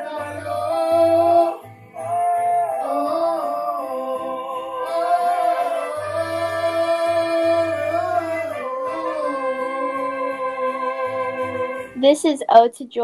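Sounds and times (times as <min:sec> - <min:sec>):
boy singing a ballad: 0:00.0 - 0:12.6.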